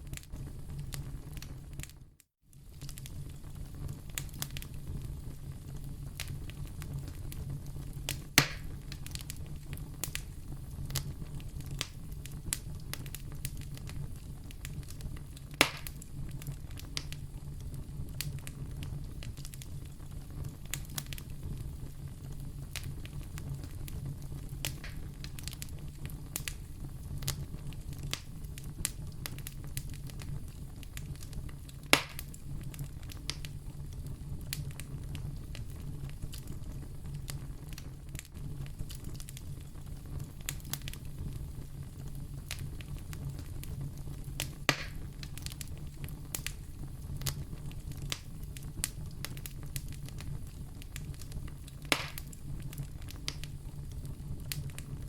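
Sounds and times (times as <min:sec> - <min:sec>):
fire low rumble: 0:00.0 - 0:55.0
wood fire crackling: 0:00.0 - 0:55.0
loud fire pops: 0:02.6 - 0:55.0.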